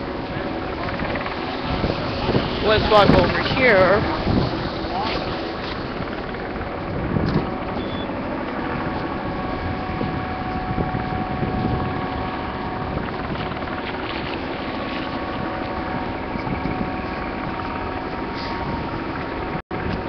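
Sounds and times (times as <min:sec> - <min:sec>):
machinery drone with held tones: 0:00.0 - 0:20.0
wind rumbling on microphone: 0:00.0 - 0:20.0.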